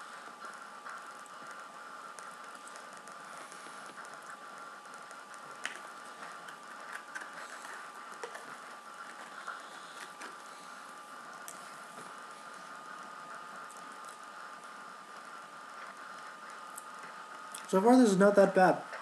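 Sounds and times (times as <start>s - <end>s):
faint high hum: 0.0s - 19.0s.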